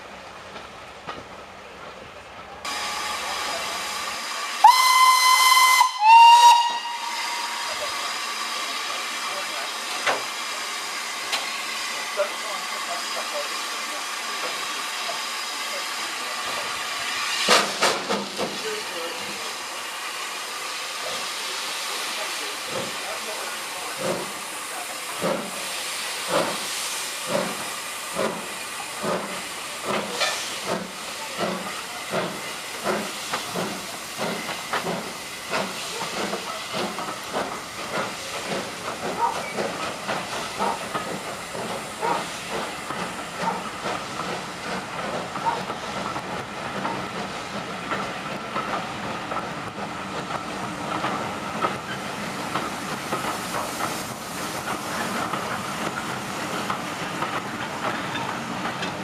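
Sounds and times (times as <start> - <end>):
steam locomotive chuffing: 0.4 - 59.0
steam hissing: 2.6 - 59.0.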